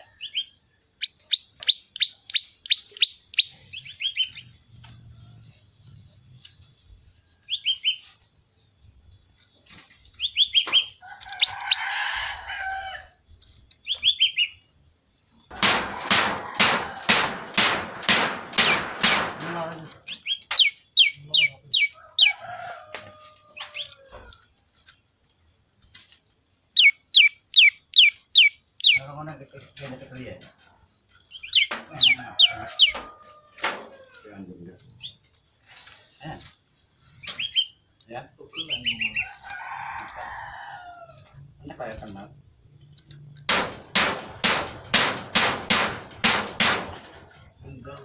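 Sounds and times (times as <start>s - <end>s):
harsh rapid bird strokes: 1.0s - 8.5s, 15.4s - 30.4s, 31.2s - 48.0s.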